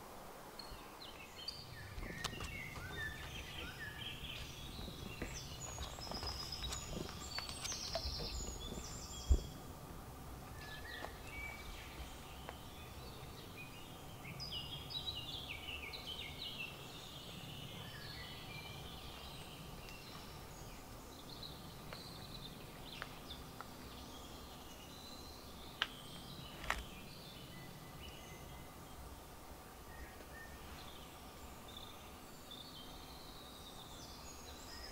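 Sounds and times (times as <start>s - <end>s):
low background noise: 0.0s - 34.9s
songbirds singing: 0.0s - 34.9s.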